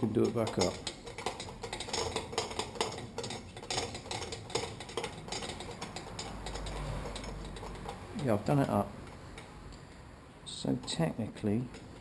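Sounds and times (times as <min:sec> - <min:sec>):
metallic clicks of tools: 0:00.0 - 0:10.0.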